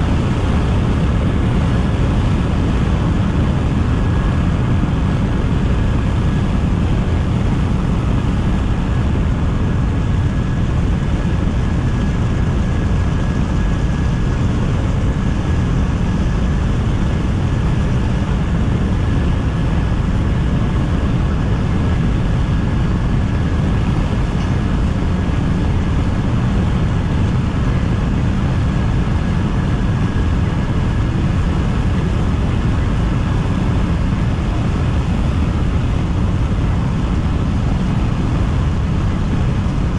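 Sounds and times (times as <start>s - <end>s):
car road and wind noise: 0.0s - 39.9s
faint high whine: 0.0s - 39.9s.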